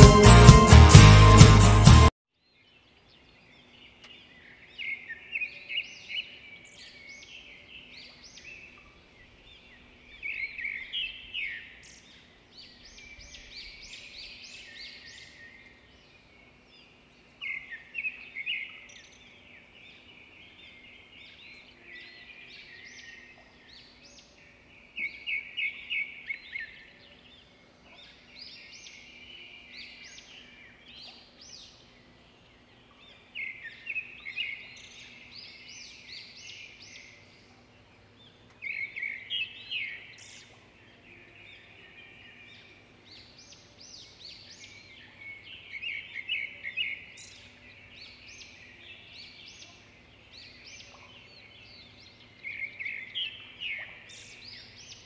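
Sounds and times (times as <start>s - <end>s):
birds chirping and trilling: 2.5s - 55.0s
quiet bird twittering: 3.0s - 55.0s.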